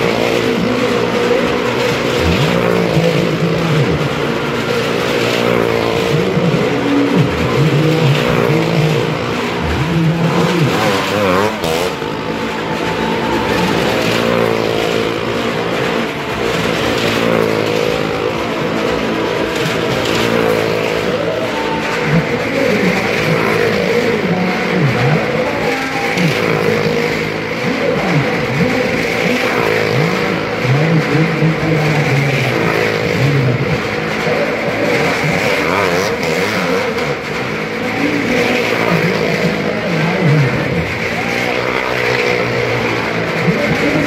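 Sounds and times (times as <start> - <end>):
vehicle engines revving: 0.0 - 44.0.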